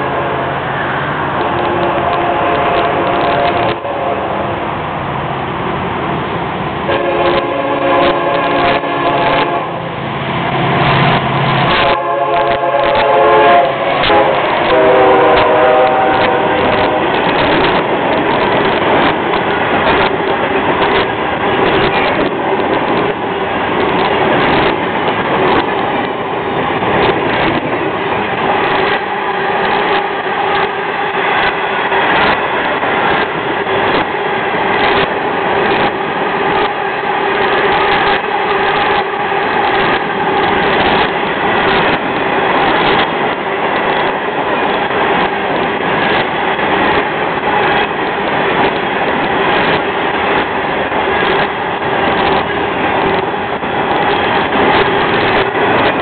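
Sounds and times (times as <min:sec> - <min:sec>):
train wheels clicking over rail joints: 0:10.2 - 0:56.0.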